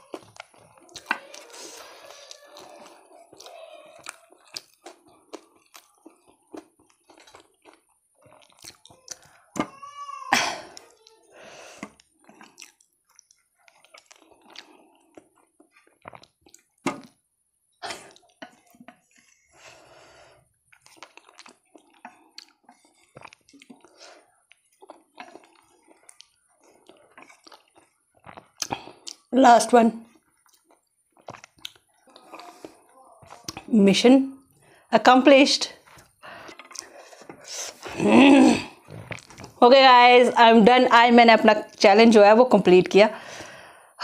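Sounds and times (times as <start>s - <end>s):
person chewing fruit: 0.0s - 29.4s, 30.0s - 33.8s, 35.8s - 39.6s.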